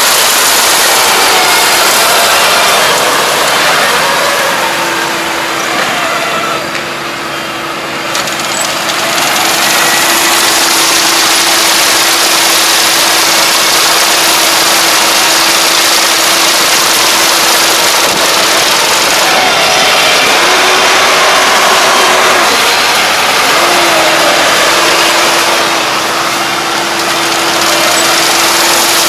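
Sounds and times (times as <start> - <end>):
combine harvester engine and machinery: 0.0 - 29.0.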